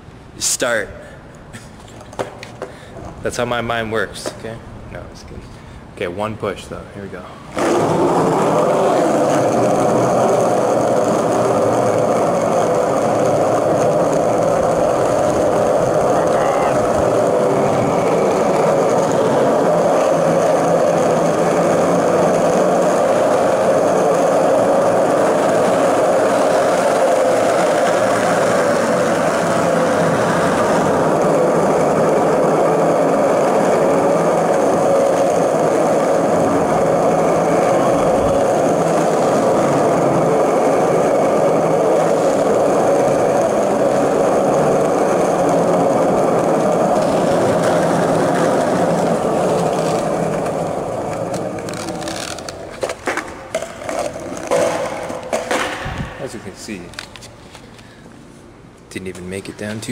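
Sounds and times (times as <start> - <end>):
skateboard wheels rolling on concrete: 1.6 - 4.6, 6.1 - 59.9.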